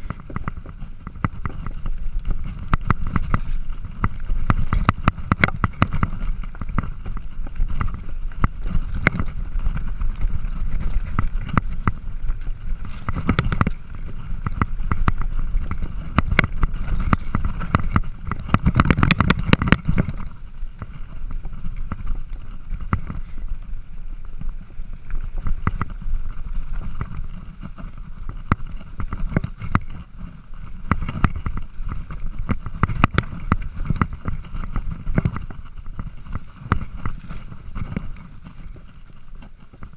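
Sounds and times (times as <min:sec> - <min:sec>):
bike rattling over bumps: 0:00.0 - 0:39.9
bike tyres rumbling on dirt: 0:00.0 - 0:39.9.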